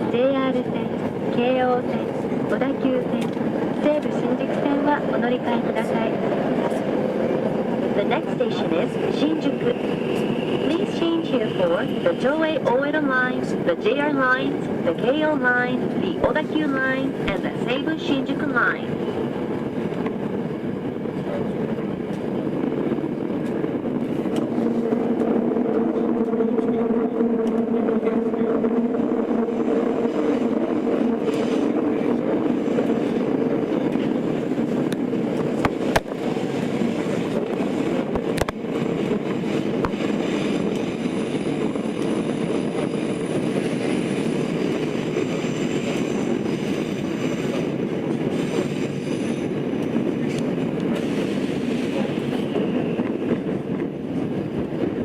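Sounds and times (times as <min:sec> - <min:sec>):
subway train wheels rumbling on rail: 0:00.0 - 0:55.0.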